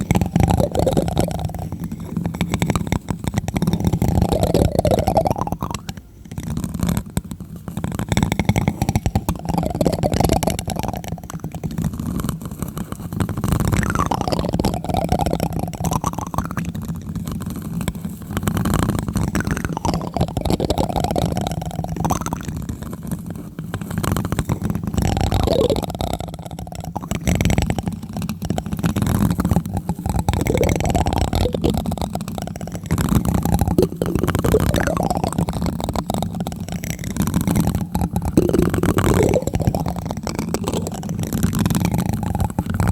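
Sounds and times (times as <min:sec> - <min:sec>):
plastic spoon tapping on microphone: 0:00.0 - 0:42.9.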